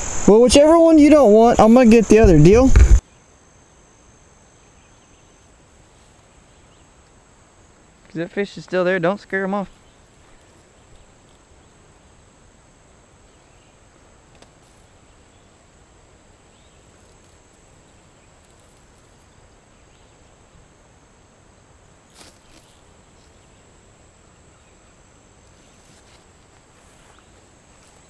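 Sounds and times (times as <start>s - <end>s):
insect drone: 0.0s - 28.0s.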